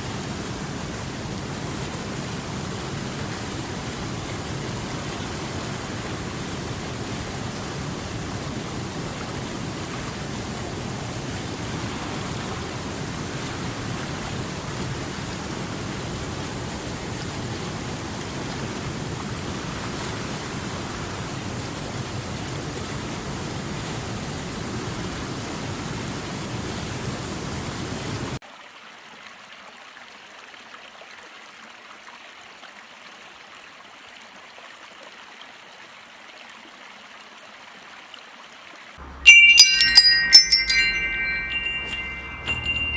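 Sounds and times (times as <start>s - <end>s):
rushing water: 0.0s - 42.9s
trickling stream: 0.0s - 42.9s.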